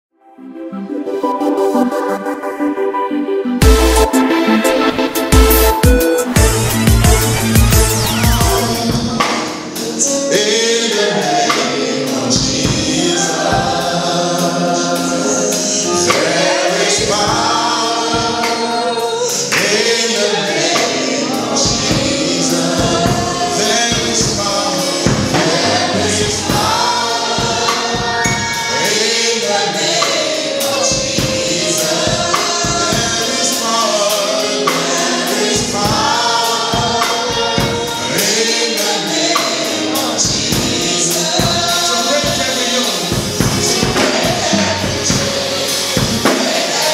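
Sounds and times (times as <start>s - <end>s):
gospel choir singing: 0.4s - 46.9s
band playing a steady beat: 3.6s - 46.9s.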